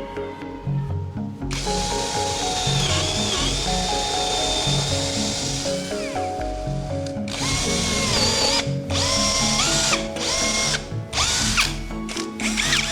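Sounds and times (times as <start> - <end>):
background music: 0.0 - 12.9
power tool motor whining: 1.5 - 6.6, 7.3 - 12.9.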